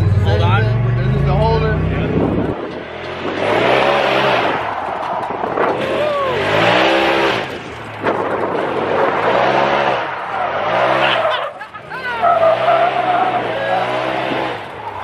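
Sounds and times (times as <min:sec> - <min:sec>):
car engine revving: 0:00.0 - 0:15.0
tyre and wind rushing noise: 0:01.9 - 0:15.0.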